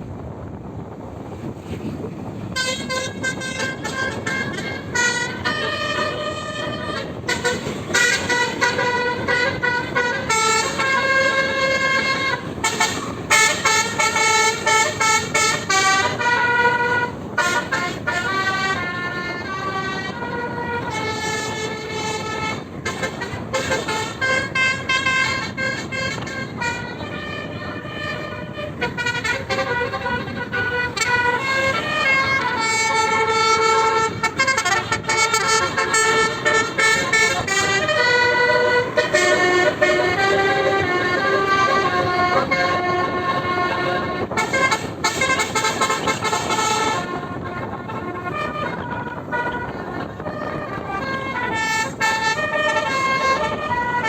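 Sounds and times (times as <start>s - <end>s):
steady rumble: 0.0s - 54.0s
bus horn playing a melody: 0.1s - 54.0s.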